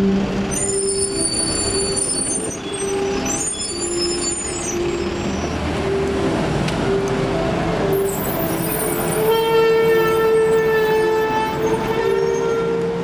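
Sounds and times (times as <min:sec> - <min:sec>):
tram wheels squealing on track: 0:00.0 - 0:06.0, 0:08.0 - 0:13.0
buses and trams noise: 0:00.0 - 0:13.0.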